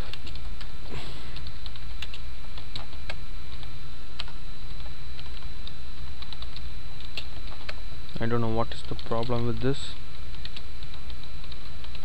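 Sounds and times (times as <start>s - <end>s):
computer keyboard typing: 0.0s - 0.5s, 1.4s - 7.8s, 8.4s - 12.0s
steady low hum: 0.0s - 12.0s.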